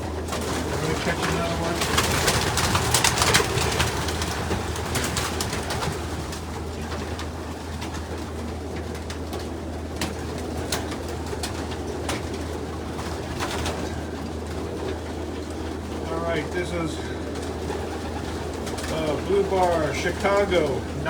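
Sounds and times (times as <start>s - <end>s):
pigeons cooing: 0.0s - 21.0s
steady low hum: 0.0s - 21.0s
wing claps and flutters: 0.0s - 21.0s.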